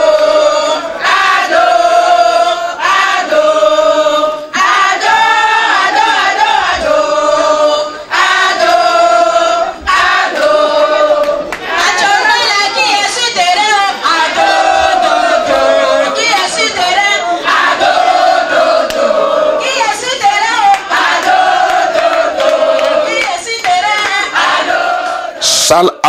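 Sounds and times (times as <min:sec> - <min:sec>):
crowd chanting: 0:00.0 - 0:25.5.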